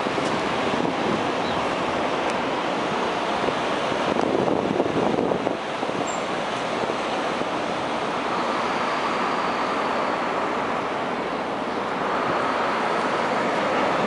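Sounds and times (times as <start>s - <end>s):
city street noise: 0.0s - 14.0s.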